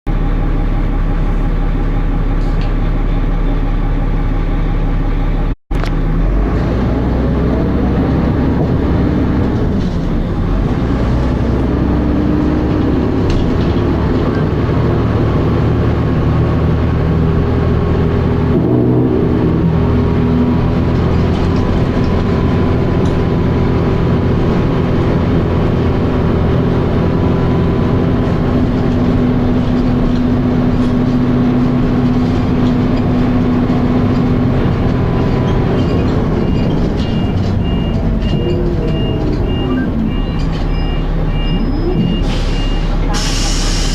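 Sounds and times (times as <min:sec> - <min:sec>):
bus engine running and revving: 0:00.1 - 0:43.9.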